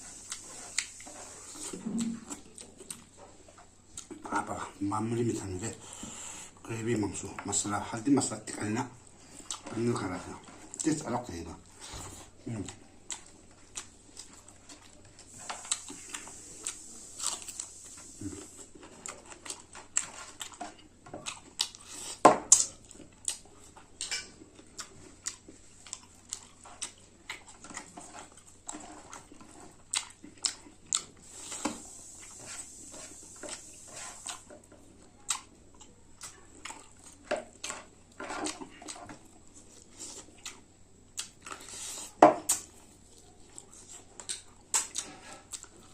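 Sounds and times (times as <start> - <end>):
chewing and mouth clicks: 0.1 - 4.3, 9.2 - 9.8, 12.6 - 45.9.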